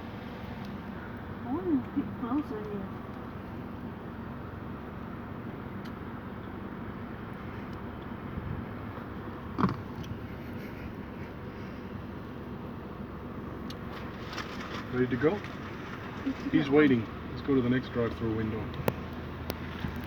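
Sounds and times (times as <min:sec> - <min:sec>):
car engine hum: 0:00.0 - 0:20.0.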